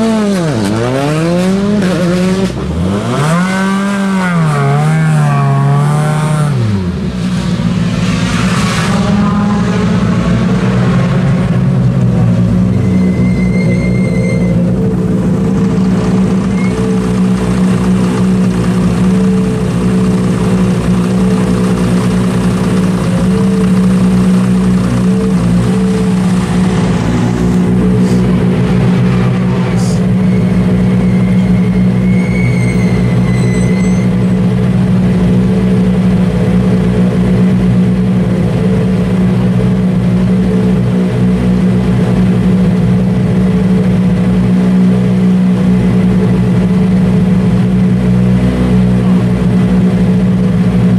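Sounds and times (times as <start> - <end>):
vehicle engine idling: 6.6 - 50.9.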